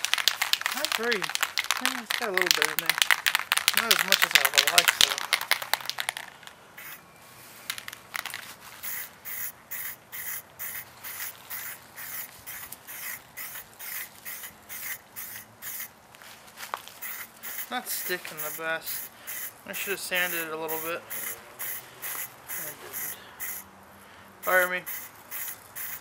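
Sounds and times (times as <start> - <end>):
spray-paint can spraying: 0.0 - 7.0, 7.7 - 15.9, 17.0 - 23.6, 24.4 - 26.0.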